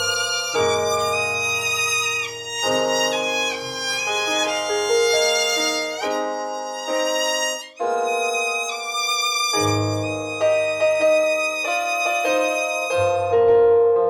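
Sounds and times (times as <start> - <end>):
violin melody: 0.0 - 13.7.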